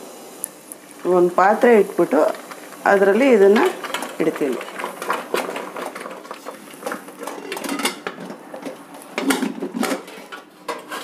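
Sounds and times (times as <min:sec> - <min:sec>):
metal steamer pot clattering: 0:01.6 - 0:11.0.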